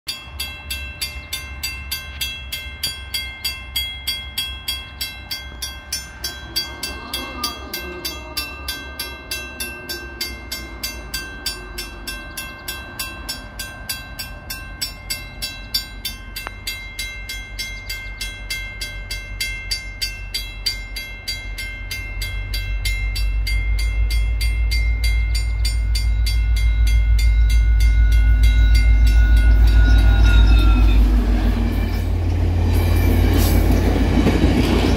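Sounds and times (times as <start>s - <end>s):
railway crossing bell ringing: 0.1s - 34.9s
diesel locomotive rumble: 0.2s - 34.9s.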